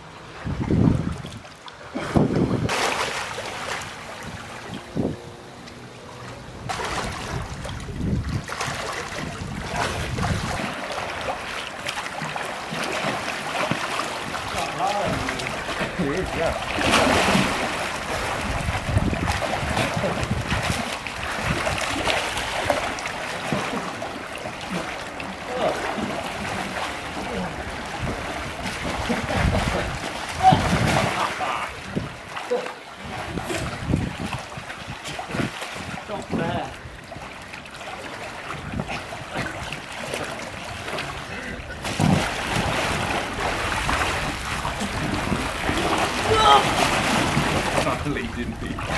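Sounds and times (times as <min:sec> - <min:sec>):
water splashing: 0:00.0 - 0:48.9
wind buffeting microphone: 0:00.2 - 0:32.4, 0:33.0 - 0:48.9.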